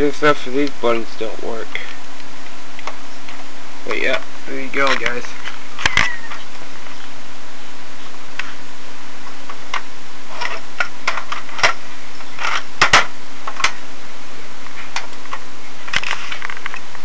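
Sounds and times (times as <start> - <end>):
faint low hum: 0.0 - 17.0
steady hiss: 0.0 - 17.0.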